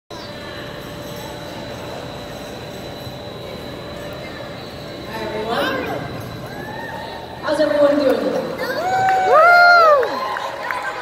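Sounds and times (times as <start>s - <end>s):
high whine: 0.1s - 10.7s.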